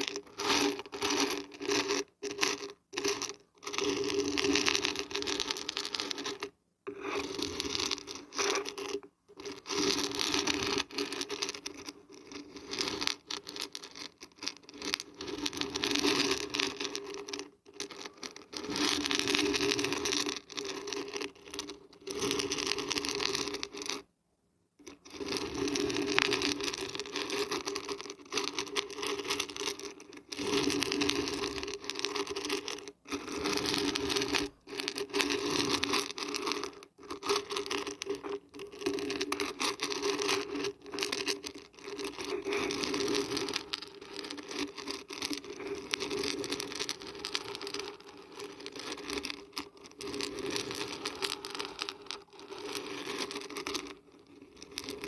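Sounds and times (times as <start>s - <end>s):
dried beans rattling: 0.0s - 24.0s, 24.8s - 55.0s.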